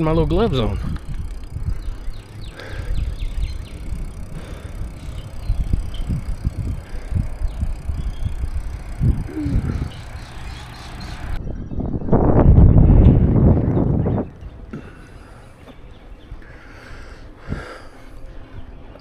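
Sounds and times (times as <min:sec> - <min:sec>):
bicycle rolling noise: 0:00.0 - 0:11.4, 0:12.7 - 0:19.0
wind buffeting microphone: 0:00.0 - 0:17.7.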